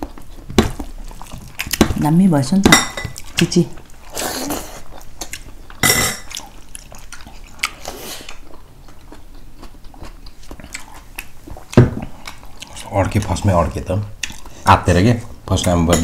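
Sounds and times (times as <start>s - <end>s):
chewing and mouth noises: 0.0s - 2.3s, 3.1s - 15.8s.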